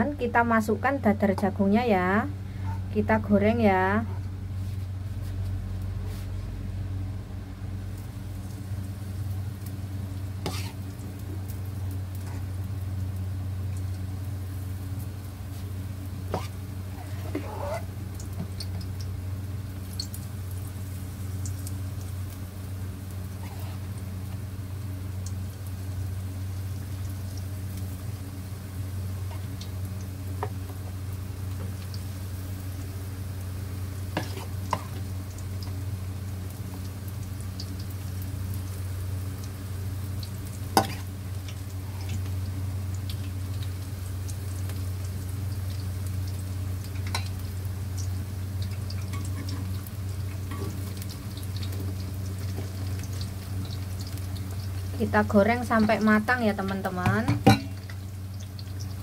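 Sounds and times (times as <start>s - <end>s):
batter sizzling in hot oil: 0.0s - 59.0s.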